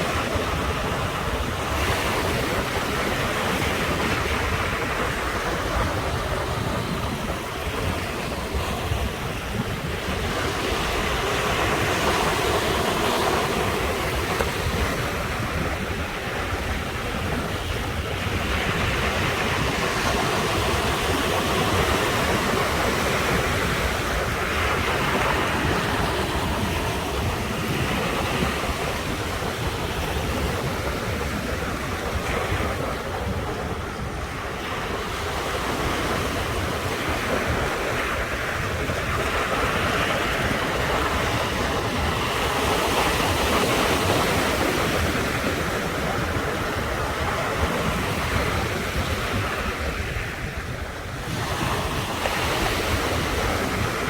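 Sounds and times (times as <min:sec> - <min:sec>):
ocean surf washing ashore: 0:00.0 - 0:54.0
wind rumbling on microphone: 0:00.0 - 0:54.0.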